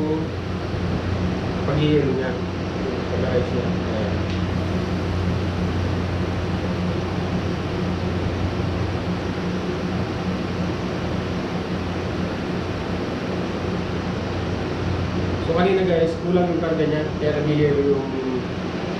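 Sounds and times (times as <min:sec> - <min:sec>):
air conditioner hum: 0:00.0 - 0:18.9
fan air rushing: 0:00.0 - 0:18.9.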